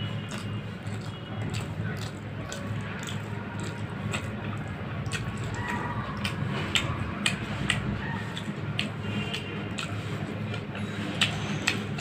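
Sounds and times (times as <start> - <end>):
food squishing mixed by hand: 0.0 - 12.0
wet chewing and lip-smacking: 0.0 - 12.0.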